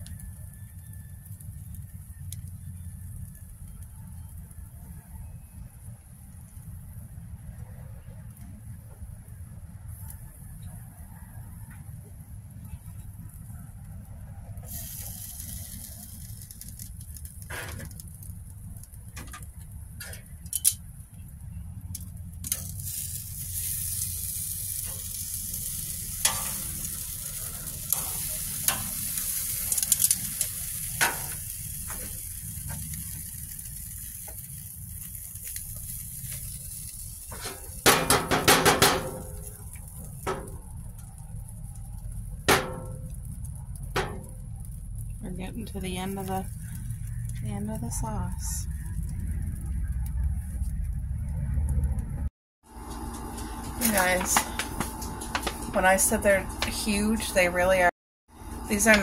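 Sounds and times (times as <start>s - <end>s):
hot dogs sizzling on grill: 0.0s - 51.9s, 52.7s - 59.0s.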